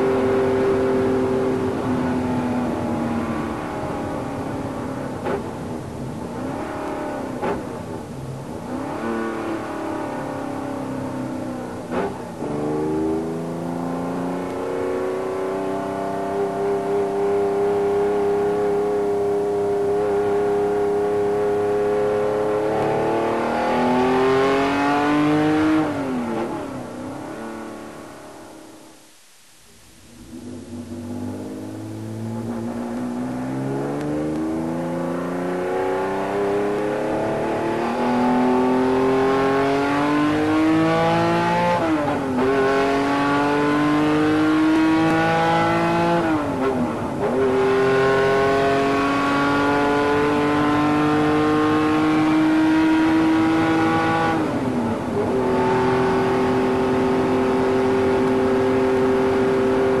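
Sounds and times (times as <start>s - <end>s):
car engine accelerating through gears: 0.0s - 28.9s, 30.2s - 60.0s.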